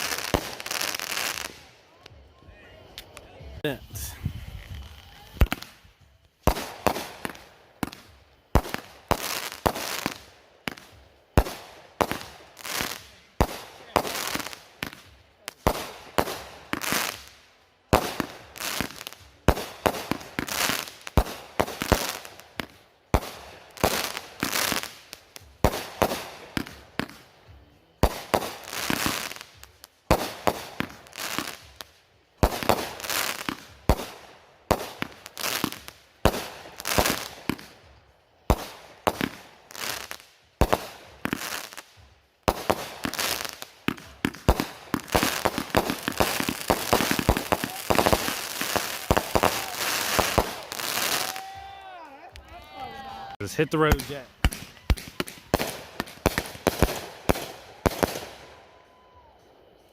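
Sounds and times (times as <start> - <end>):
firework bursts overhead: 0.0 - 52.6, 53.2 - 59.9.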